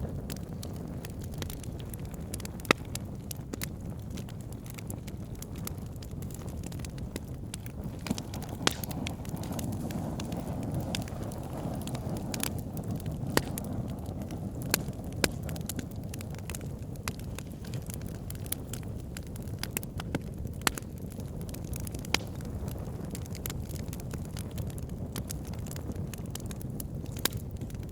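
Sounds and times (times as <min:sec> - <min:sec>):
fire roaring in fireplace: 0:00.0 - 0:27.9
wood crackling and popping: 0:00.0 - 0:27.9.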